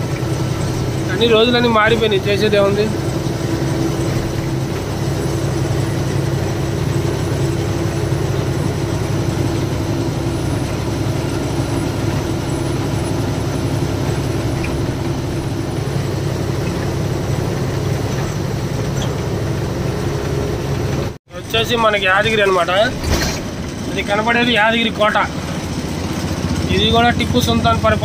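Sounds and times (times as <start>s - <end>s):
road noise hiss: 0.0s - 28.0s
truck diesel engine droning: 0.0s - 28.0s.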